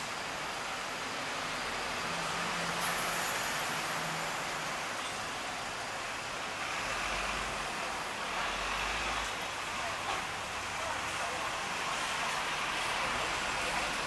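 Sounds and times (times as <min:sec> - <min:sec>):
passing vehicles: 0:00.0 - 0:14.0.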